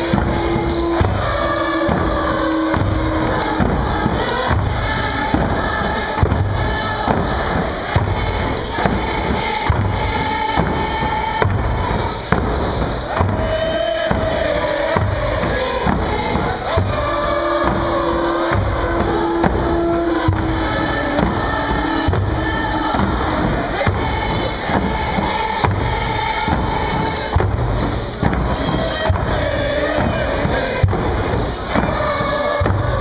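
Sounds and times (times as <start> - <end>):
group singing: 0.0 - 33.0
hand drums beaten in steady rhythm: 0.0 - 33.0.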